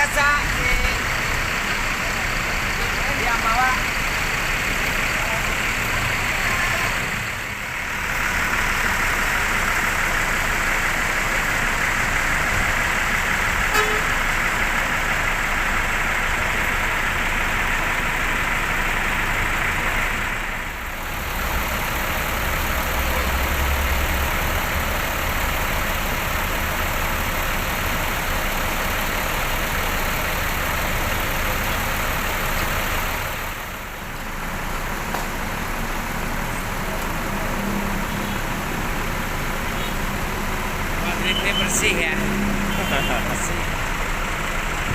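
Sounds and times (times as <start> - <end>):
heavy engine humming nearby: 0.0 - 44.9
roar of buses and traffic: 0.0 - 44.9.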